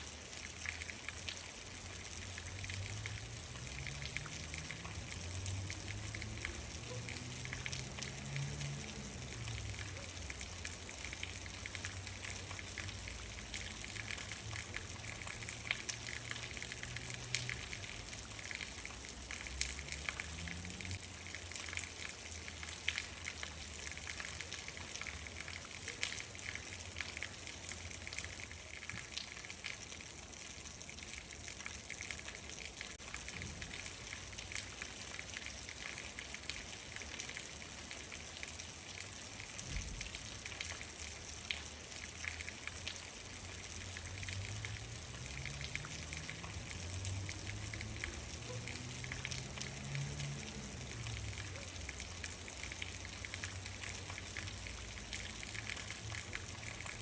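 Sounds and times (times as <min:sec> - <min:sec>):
raindrops ticking close by: 0:00.0 - 0:57.0
steady rain falling: 0:00.0 - 0:57.0.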